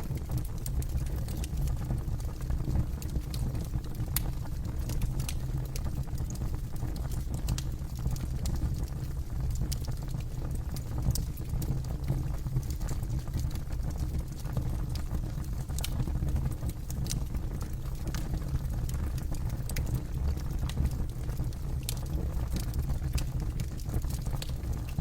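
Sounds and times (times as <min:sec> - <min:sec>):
campfire crackling and popping: 0:00.0 - 0:25.0
low fire rumble: 0:00.0 - 0:25.0.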